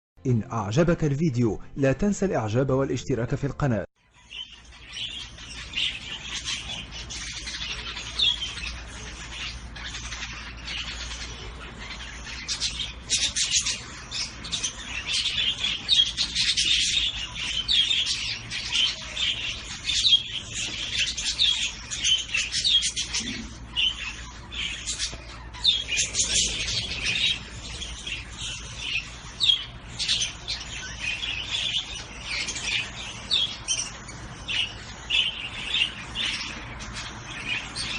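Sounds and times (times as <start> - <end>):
finches chirping: 4.0 - 37.9.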